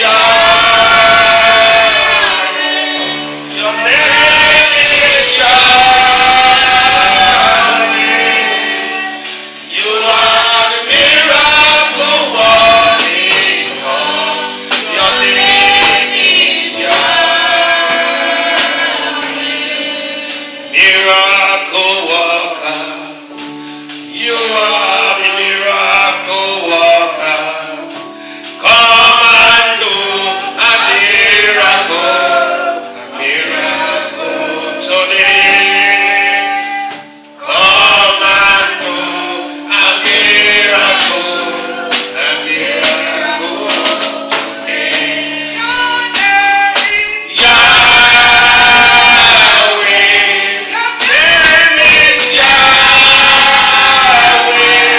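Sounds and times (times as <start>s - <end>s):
man singing with choir: 0.0s - 54.9s
steady beat: 0.0s - 54.9s.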